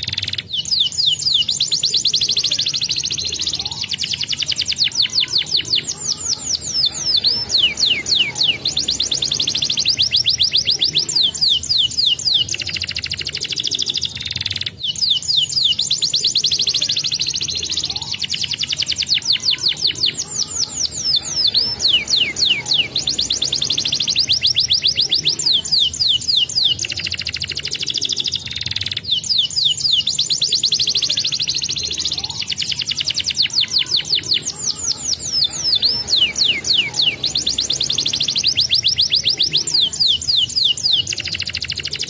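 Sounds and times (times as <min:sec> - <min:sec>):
canary singing: 0:00.0 - 0:42.0.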